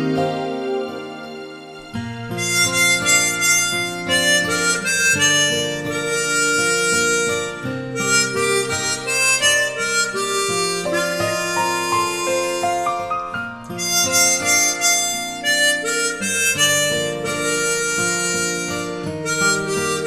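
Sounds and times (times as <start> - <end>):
harmonica melody: 0.0 - 20.0.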